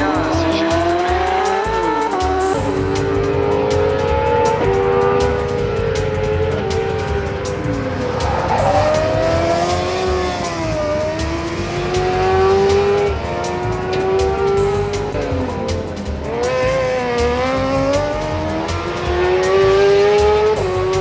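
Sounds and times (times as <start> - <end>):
racing engines passing: 0.0 - 21.0.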